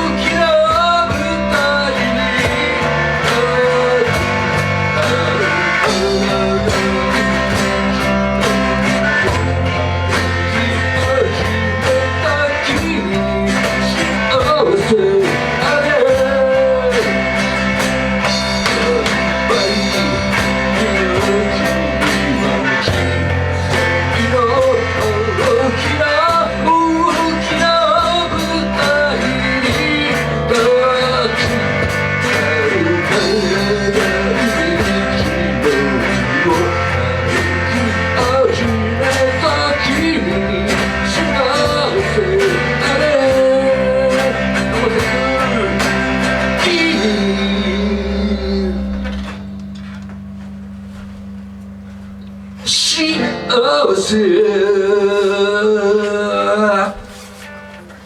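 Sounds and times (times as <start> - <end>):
drum beat: 0.0 - 47.6
person singing: 0.0 - 50.1, 52.6 - 58.0
bass guitar: 0.0 - 58.0
electric guitar: 0.0 - 58.0.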